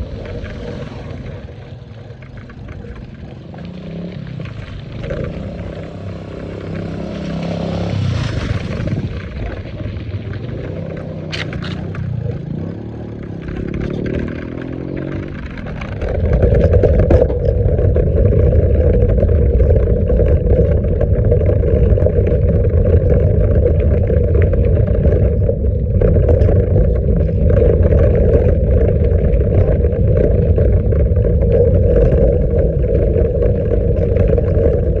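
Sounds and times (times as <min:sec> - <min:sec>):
motorcycle engine rumbling: 0:00.0 - 0:35.0.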